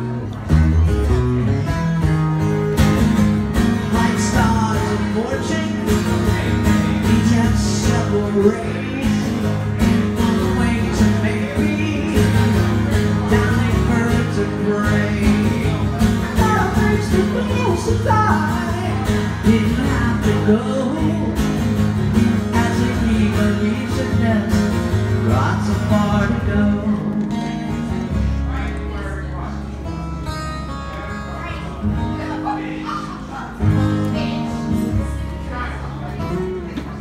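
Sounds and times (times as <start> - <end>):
amplified acoustic guitar chords: 0.0 - 37.0.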